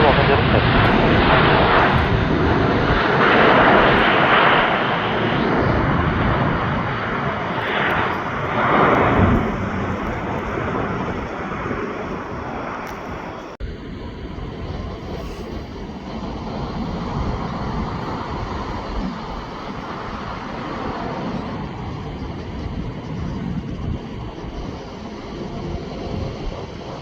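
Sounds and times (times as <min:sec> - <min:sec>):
jet airliner noise: 0:00.0 - 0:27.0.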